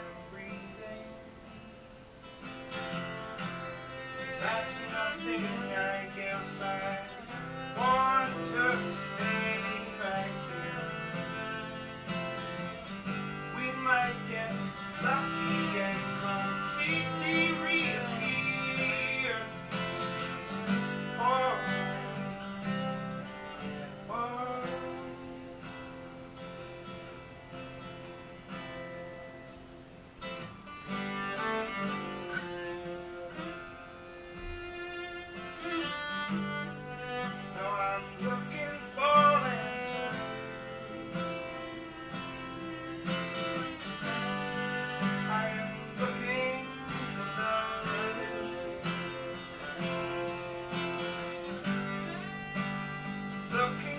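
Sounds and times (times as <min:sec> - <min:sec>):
bowed string melody: 0:00.0 - 0:29.8, 0:30.5 - 0:53.9
strummed acoustic guitar: 0:00.0 - 0:53.9.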